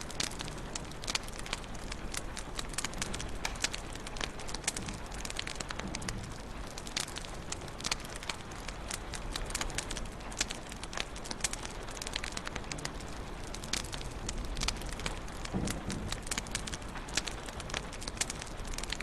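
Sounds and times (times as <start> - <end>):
fire popping and snapping: 0.0 - 19.0
low rumble of flames: 0.0 - 19.0.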